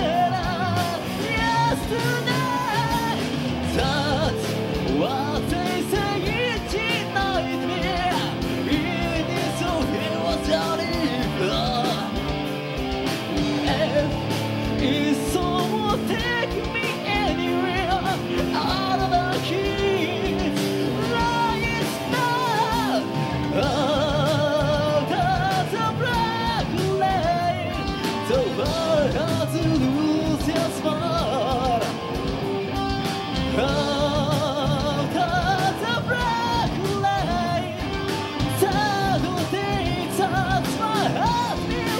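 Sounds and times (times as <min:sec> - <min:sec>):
live metal band playing: 0:00.0 - 0:41.9
man singing: 0:00.0 - 0:41.9.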